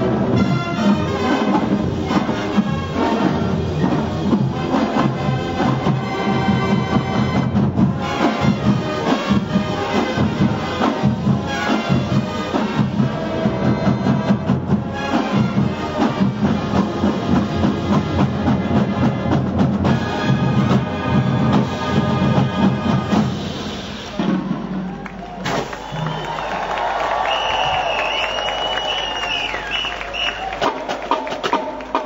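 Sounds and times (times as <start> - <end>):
drumline beat: 0.0 - 32.0
marching band brass tune: 0.0 - 32.0.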